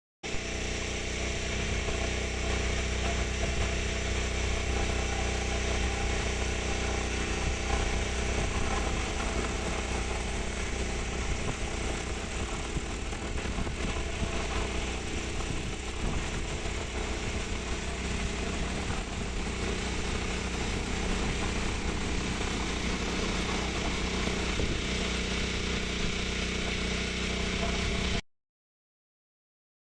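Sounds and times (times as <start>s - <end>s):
drone rotors whirring: 0.3s - 28.2s
wind noise: 1.6s - 26.8s.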